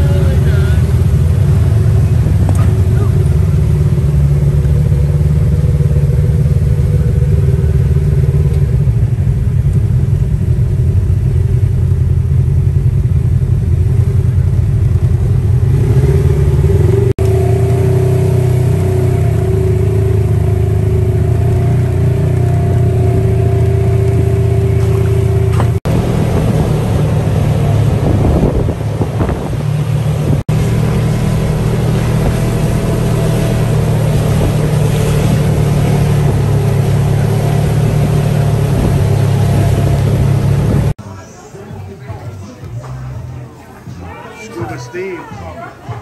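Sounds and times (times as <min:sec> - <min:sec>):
buggy engine rumbling: 0:00.0 - 0:46.0.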